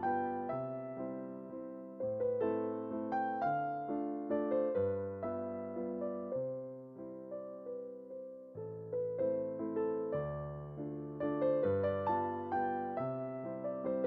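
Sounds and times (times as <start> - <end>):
gentle solo piano melody: 0.0 - 14.0.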